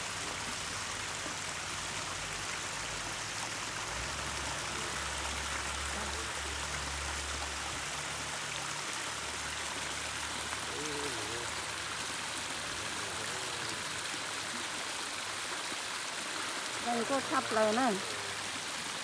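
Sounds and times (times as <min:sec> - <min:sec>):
water spilling over rocks: 0:00.0 - 0:19.0.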